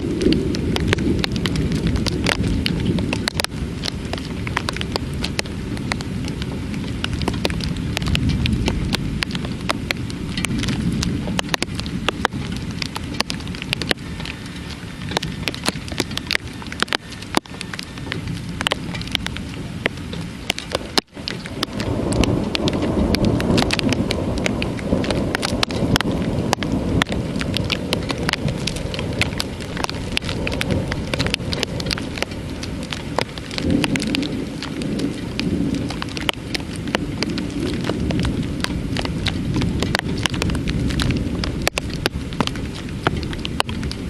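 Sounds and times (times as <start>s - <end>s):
heavy rain: 0.0s - 44.0s
raindrop impacts: 0.0s - 44.0s.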